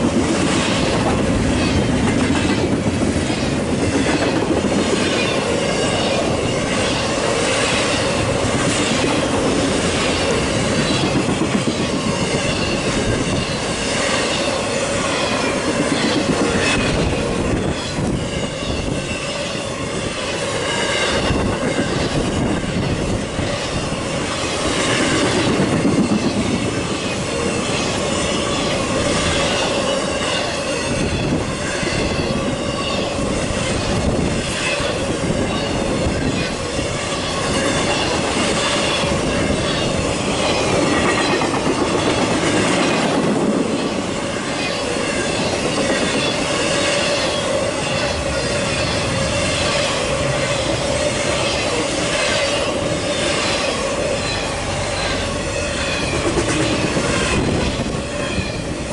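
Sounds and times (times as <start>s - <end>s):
train wheels rumbling on rail: 0.0s - 58.9s
metallic flange squeal: 9.7s - 25.5s, 26.1s - 58.9s.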